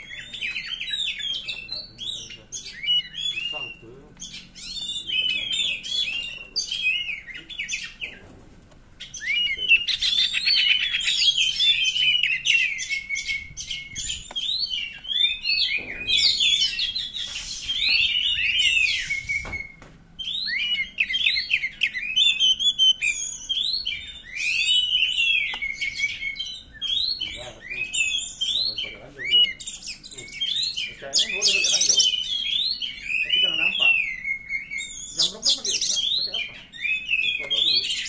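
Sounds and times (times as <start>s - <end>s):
bird singing whistles and trills: 0.0s - 8.3s, 9.0s - 38.0s.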